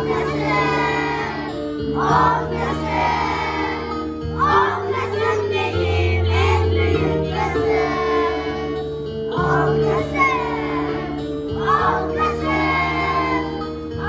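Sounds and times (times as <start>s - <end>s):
children singing: 0.0s - 14.0s
music backing track with bass: 0.0s - 14.0s.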